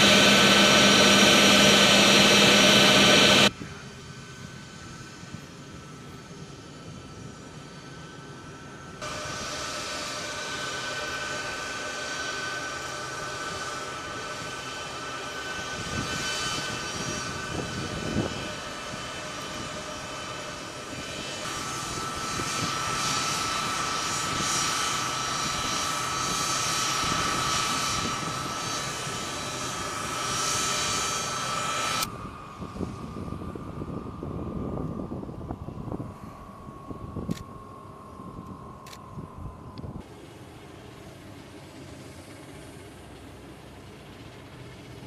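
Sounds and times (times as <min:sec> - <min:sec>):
jet engines whining: 0:00.0 - 0:45.0.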